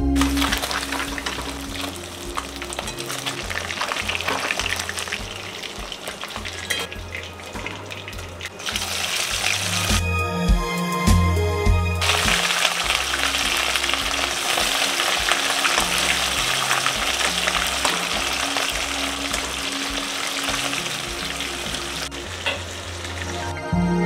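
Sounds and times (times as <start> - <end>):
food sizzling in hot oil: 0.2 - 10.0, 12.0 - 23.5.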